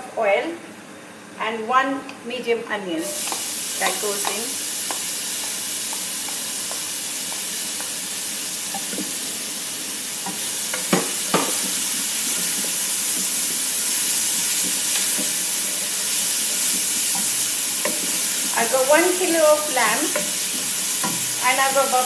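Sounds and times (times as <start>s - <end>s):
onion sizzling in hot oil: 3.0s - 22.0s.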